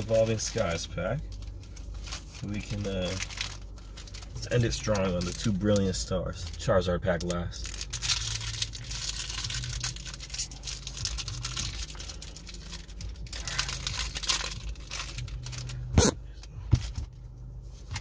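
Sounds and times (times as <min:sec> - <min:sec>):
foil wrapper tearing and crinkling: 0:00.0 - 0:16.5.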